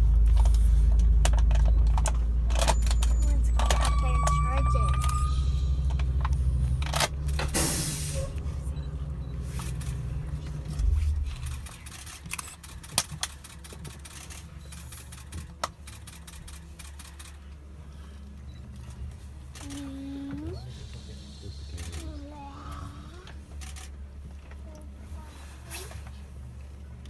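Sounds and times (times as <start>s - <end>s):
bus engine idling: 0.0s - 27.0s.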